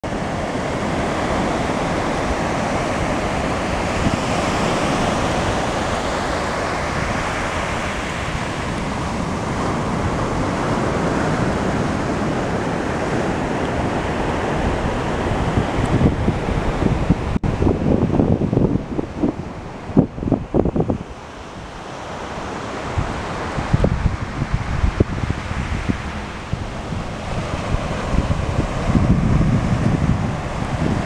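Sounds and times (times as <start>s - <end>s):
ocean surf breaking on beach: 0.0s - 31.0s
wind rumbling on microphone: 0.0s - 31.0s.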